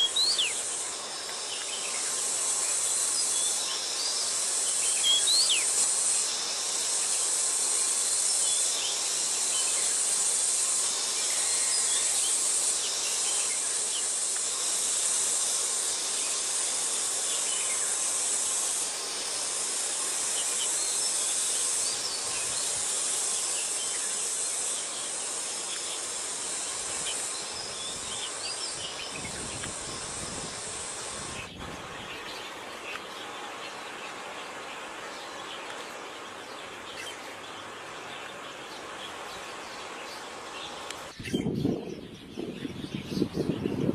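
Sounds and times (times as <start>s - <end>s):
high-pitched insect drone: 0.0s - 43.9s.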